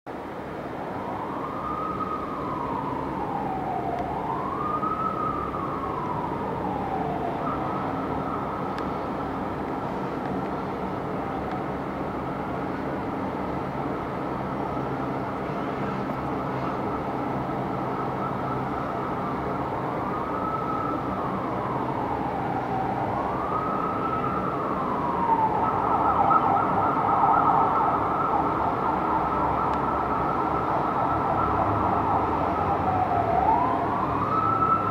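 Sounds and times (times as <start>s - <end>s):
city traffic hum: 0.1s - 34.9s
emergency vehicle sirens: 0.1s - 34.9s.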